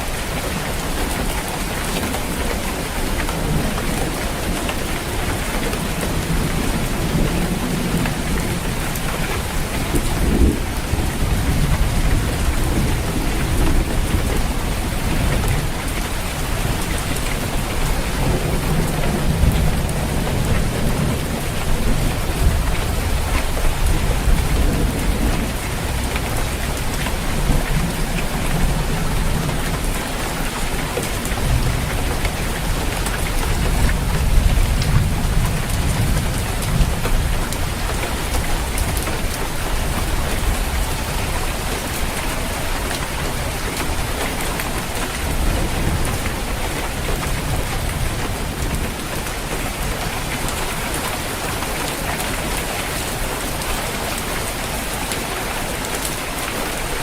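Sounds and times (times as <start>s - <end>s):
heavy rain on a roof: 0.0s - 57.0s
thunder rumbling: 3.3s - 54.2s.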